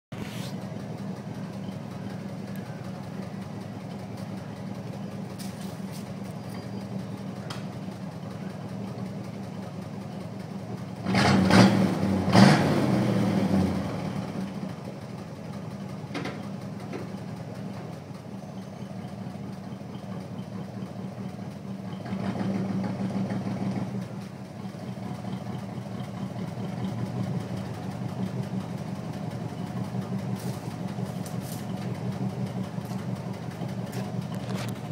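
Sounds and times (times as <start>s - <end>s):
vee eight engine idling and revving: 0.1s - 34.9s.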